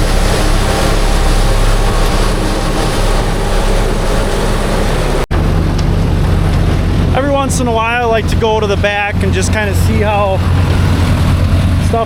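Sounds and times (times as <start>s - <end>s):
forage chopper rushing noise: 0.0s - 12.0s
tractor engine running: 0.0s - 12.0s.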